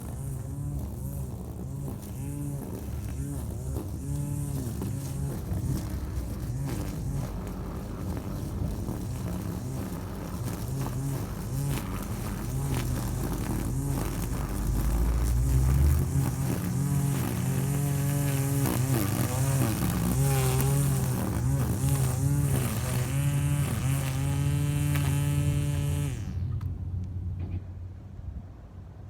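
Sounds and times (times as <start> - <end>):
gas grass cutter engine running: 0.0 - 26.9.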